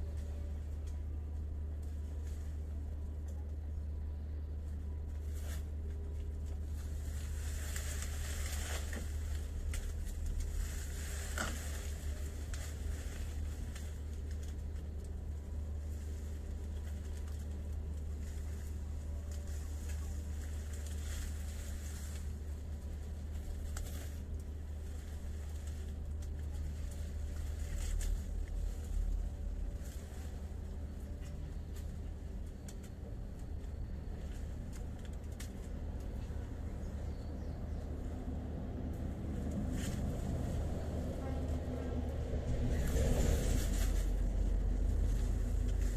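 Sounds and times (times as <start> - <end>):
rustling tree leaves and branches: 0.0 - 45.9
steady low rumble: 0.0 - 45.9.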